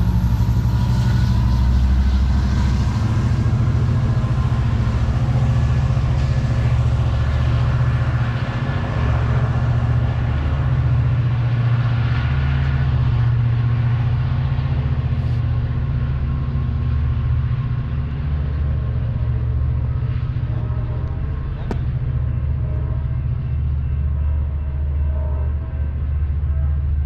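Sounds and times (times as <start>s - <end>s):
large engine rumbling: 0.0s - 27.0s.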